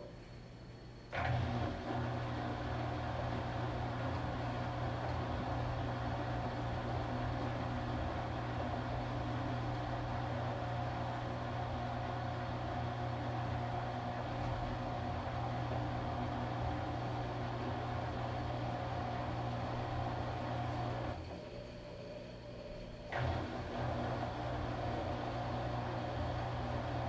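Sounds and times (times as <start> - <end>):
washing machine humming: 0.0 - 27.0.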